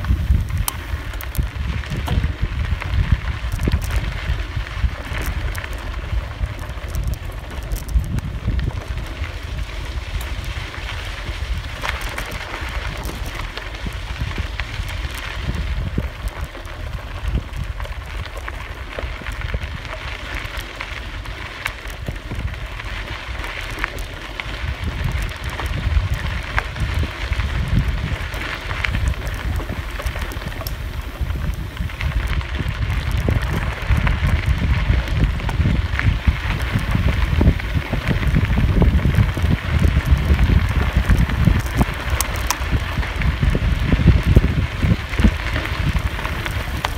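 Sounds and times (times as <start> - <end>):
bicycle tyres on gravel: 0.0 - 46.9
wind rumble on microphone: 0.0 - 46.9.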